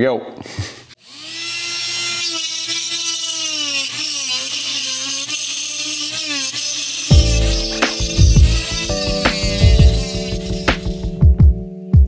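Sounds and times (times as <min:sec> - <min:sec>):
rotary tool cutting plastic: 0:00.9 - 0:11.1.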